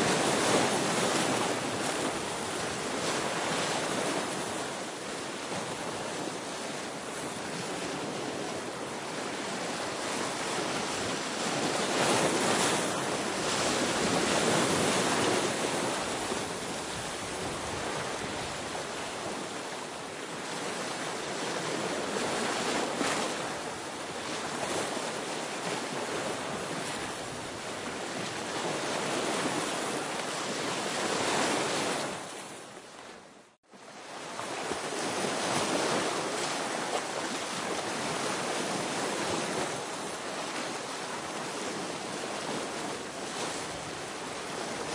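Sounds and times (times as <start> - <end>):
sea waves breaking on rocks: 0.0 - 33.2, 33.8 - 44.9.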